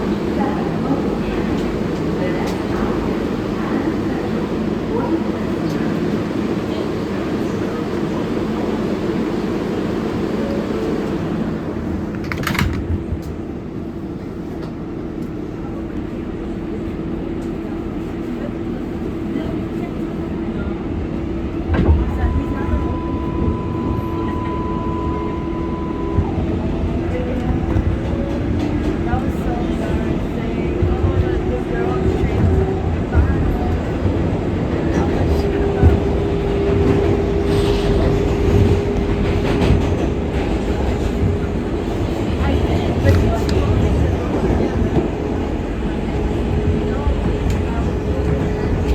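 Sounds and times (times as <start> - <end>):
subway car rumble and hum: 0.0 - 48.9.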